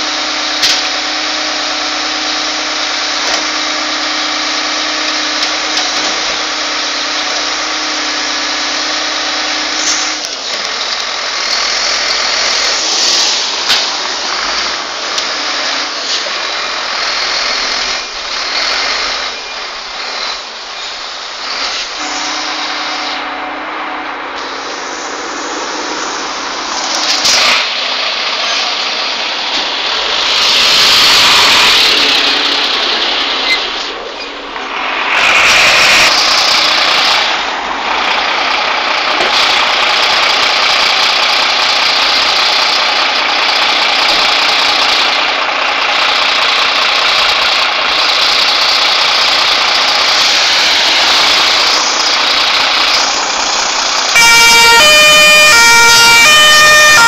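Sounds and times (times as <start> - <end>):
engine hum: 0.0 - 57.0
lorry diesel engine running: 0.0 - 57.0.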